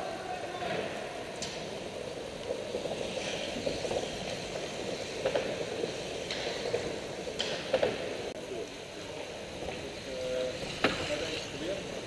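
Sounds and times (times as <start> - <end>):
indoor velodrome background noise: 0.0 - 12.0.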